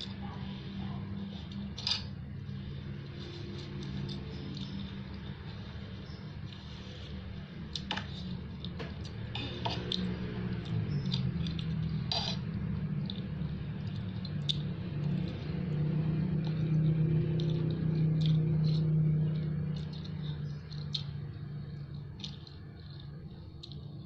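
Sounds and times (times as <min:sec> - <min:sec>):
person chewing noodles: 0:00.0 - 0:24.0
steady low hum: 0:00.0 - 0:24.0.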